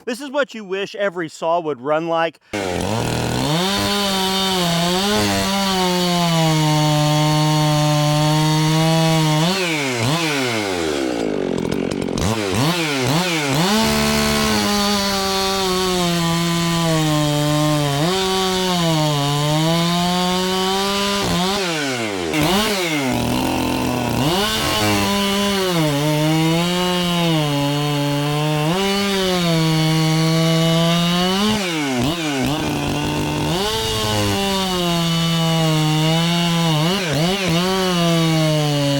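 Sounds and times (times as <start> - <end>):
chainsaw cutting wood: 2.5 - 38.9.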